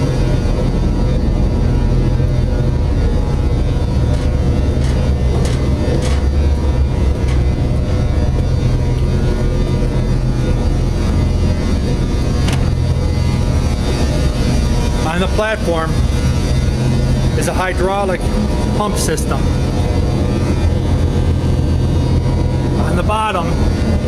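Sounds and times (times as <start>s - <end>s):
industrial machinery drone: 0.0s - 24.0s.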